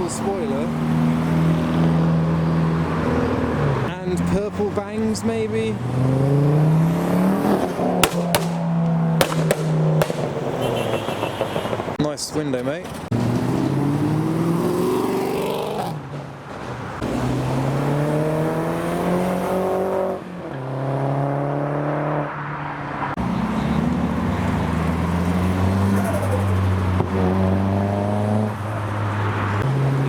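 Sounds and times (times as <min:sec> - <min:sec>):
car engines accelerating: 0:00.0 - 0:30.0.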